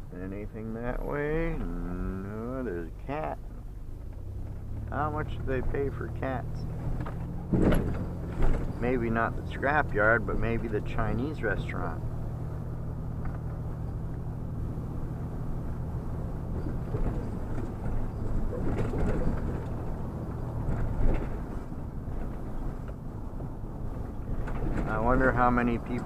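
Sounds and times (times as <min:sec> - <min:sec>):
road noise: 0:00.0 - 0:26.0
vehicle engine drone: 0:00.0 - 0:26.0.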